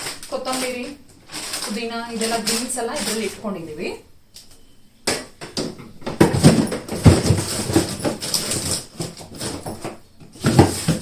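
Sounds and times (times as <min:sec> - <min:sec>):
plastic containers clattering: 0:00.0 - 0:03.7, 0:05.1 - 0:11.0.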